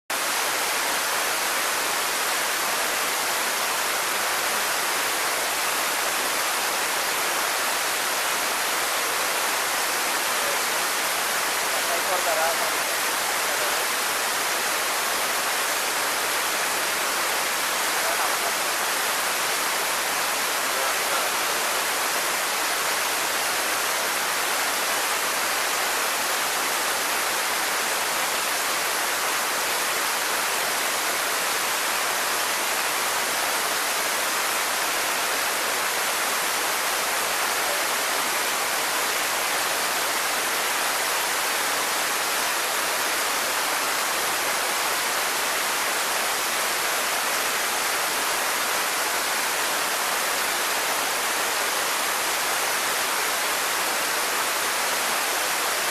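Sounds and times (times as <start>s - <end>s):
waterfall rushing: 0.1s - 55.9s.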